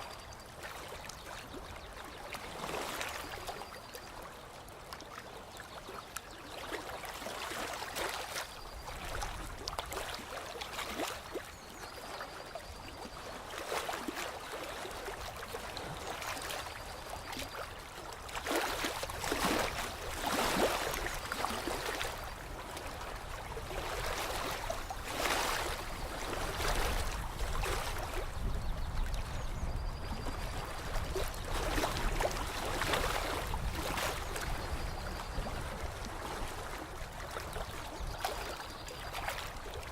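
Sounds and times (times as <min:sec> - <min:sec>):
lake water lapping: 0:00.0 - 0:39.9.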